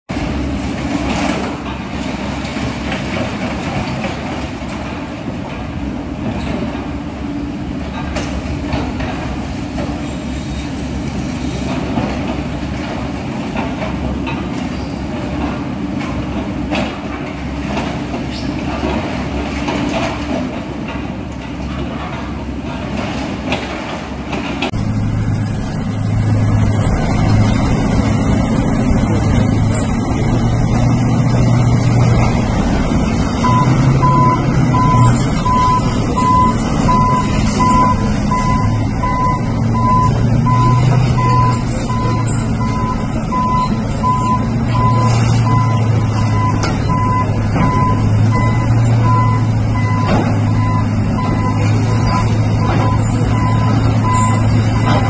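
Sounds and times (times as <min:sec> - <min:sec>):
heavy diesel engine under load: 0:00.1 - 0:55.0.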